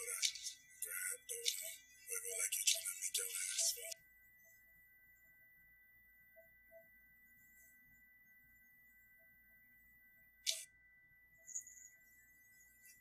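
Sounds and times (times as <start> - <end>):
faint high-pitched tone: 0.0 - 13.0.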